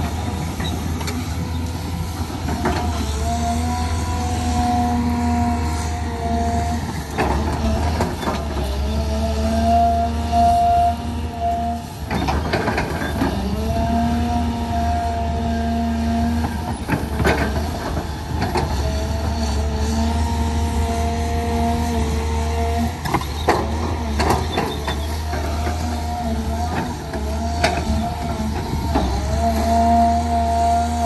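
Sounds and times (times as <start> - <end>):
diesel engine drone: 0.0 - 31.0
hydraulic whine: 0.0 - 31.0.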